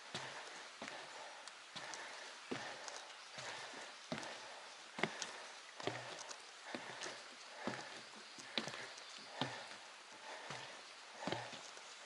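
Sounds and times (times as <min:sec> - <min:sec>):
footsteps on trail: 0:00.0 - 0:12.0
steady outdoor hiss: 0:00.0 - 0:12.0.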